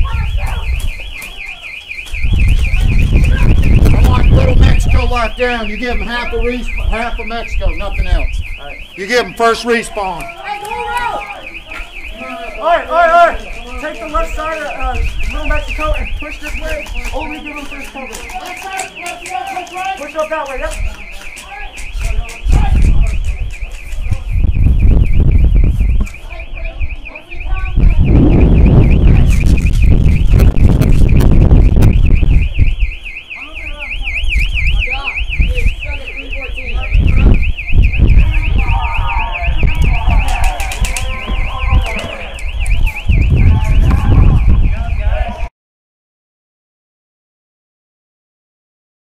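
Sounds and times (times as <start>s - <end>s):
wind buffeting microphone: 0.0s - 10.2s, 10.8s - 19.5s, 20.4s - 45.5s
electronic alarm siren warbling: 0.0s - 45.4s.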